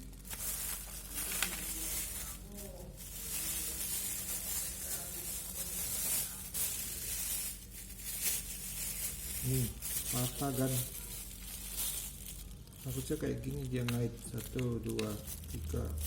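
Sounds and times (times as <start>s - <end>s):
plastic packaging rustling: 0.0s - 16.0s.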